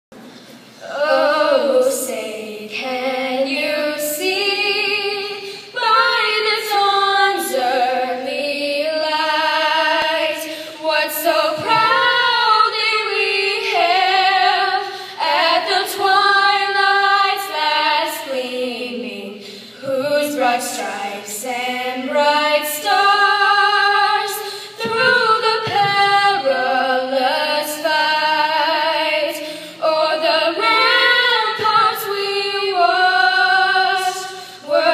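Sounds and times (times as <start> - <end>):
girls singing unaccompanied: 0.7 - 34.9.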